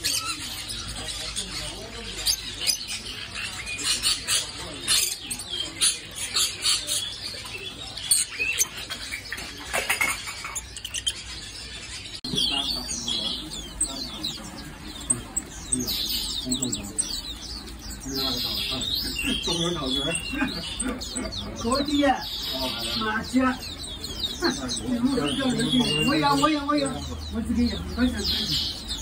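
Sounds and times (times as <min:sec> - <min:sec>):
small birds chirping and chattering: 0:00.0 - 0:29.0.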